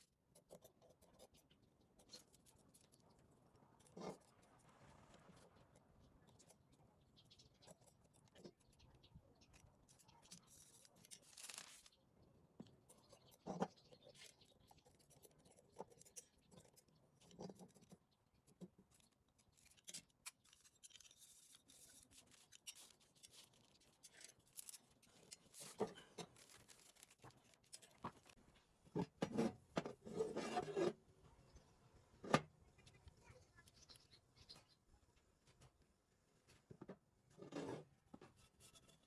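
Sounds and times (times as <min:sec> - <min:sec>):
clicks and scrapes of small parts: 0:00.0 - 0:12.0, 0:12.6 - 0:31.0, 0:36.5 - 0:39.0.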